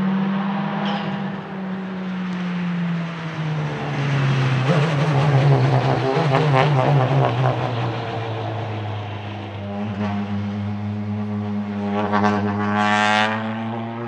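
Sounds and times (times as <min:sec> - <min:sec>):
racing car engine passing: 0:00.0 - 0:14.0.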